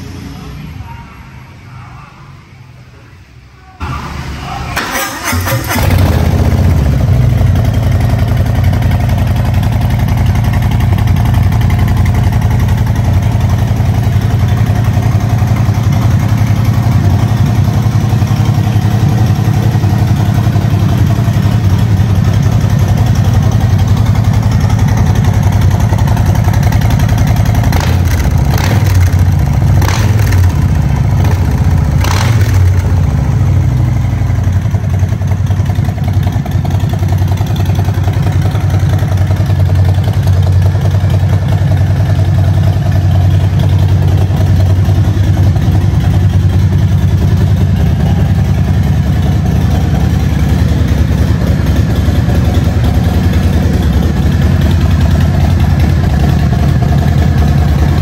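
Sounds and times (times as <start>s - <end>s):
motorcycle engine idling: 5.4s - 58.0s.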